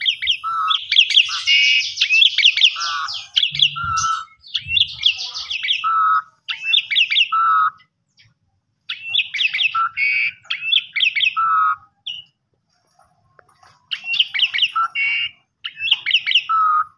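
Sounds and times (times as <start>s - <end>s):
starling singing: 0.0s - 8.3s, 8.9s - 12.4s, 13.9s - 16.9s.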